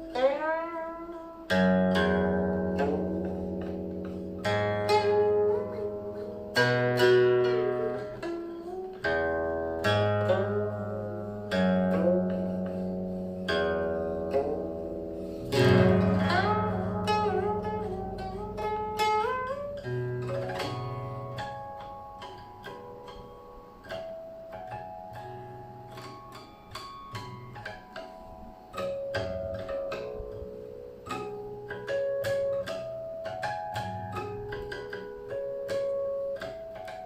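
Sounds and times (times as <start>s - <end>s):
plucked guqin strings: 0.0s - 37.0s.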